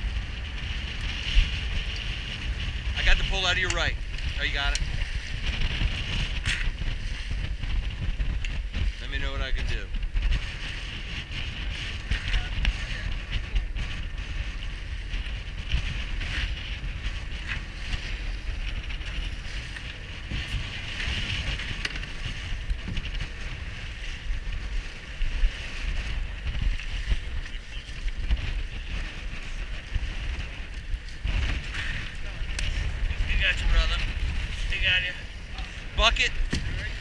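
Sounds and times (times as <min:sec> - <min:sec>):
waves splashing against hull: 0:00.0 - 0:37.0
wind buffeting microphone: 0:00.0 - 0:37.0.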